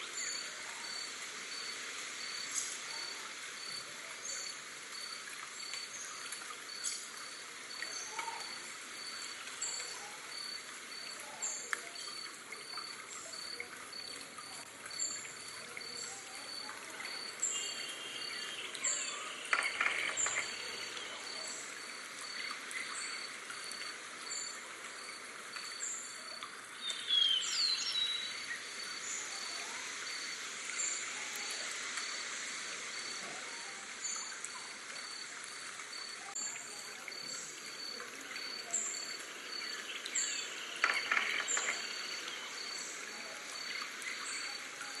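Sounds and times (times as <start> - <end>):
stream trickling: 0.0 - 45.0.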